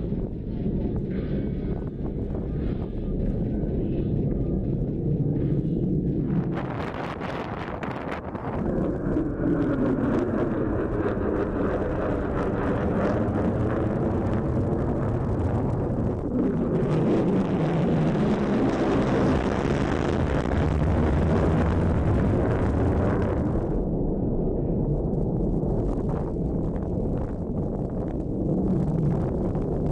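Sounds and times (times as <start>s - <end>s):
jet engine roar: 0.0s - 29.9s.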